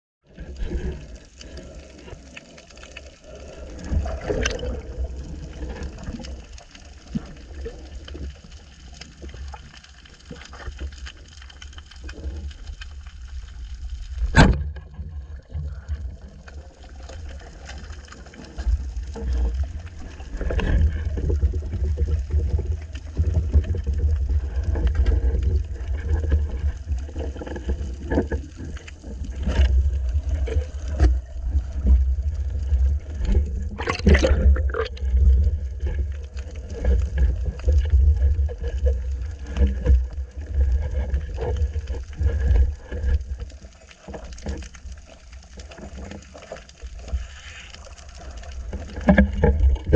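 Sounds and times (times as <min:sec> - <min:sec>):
moving water rumbling: 0:00.2 - 0:49.9.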